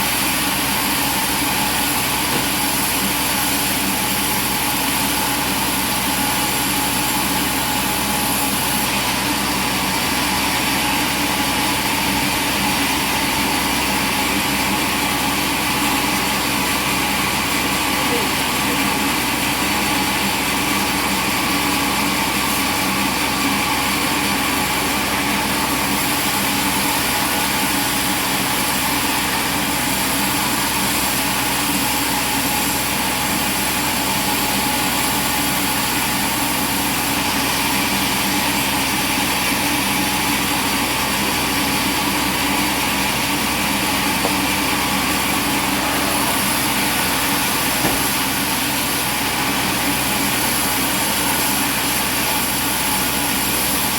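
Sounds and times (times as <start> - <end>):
machinery humming and hissing: 0.0 - 53.9.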